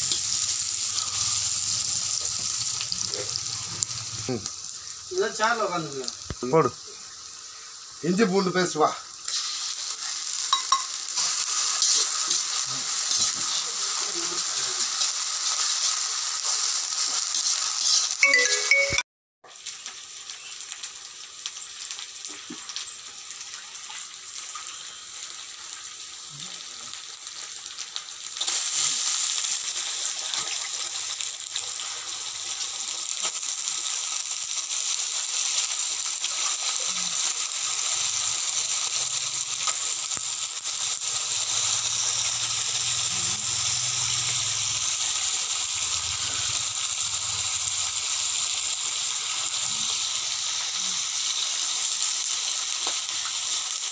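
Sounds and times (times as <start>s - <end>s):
food sizzling in hot oil: 0.0s - 53.9s.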